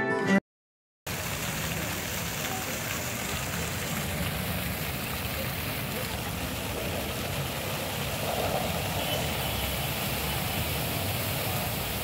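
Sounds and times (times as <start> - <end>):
fountain water splashing: 1.1 - 12.0.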